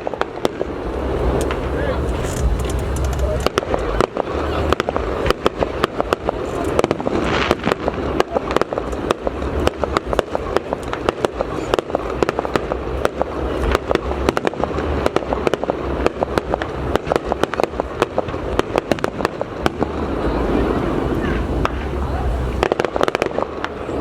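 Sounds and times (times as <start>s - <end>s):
fireworks bangs: 0.0s - 24.0s
low rumble of booms: 0.0s - 24.0s.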